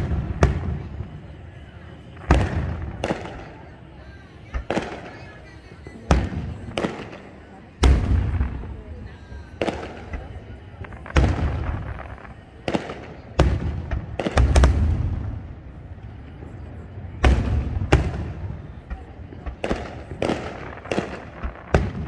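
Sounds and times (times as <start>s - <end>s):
firework shells booming: 0.0s - 3.8s, 6.1s - 15.8s, 17.2s - 22.0s.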